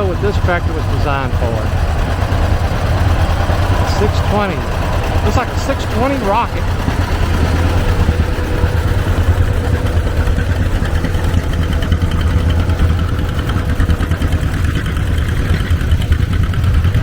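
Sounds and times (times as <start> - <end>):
tractor engine rumbling: 0.0 - 17.0.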